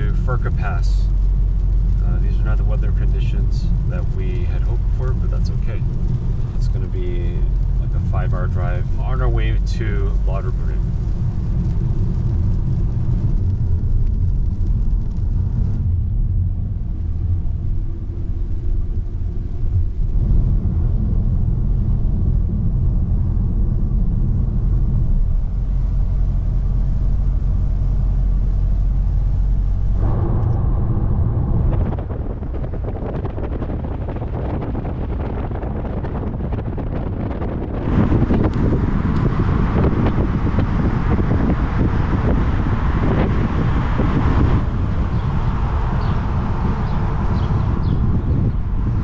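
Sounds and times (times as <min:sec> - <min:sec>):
car driving on wet road: 0:00.0 - 0:49.0.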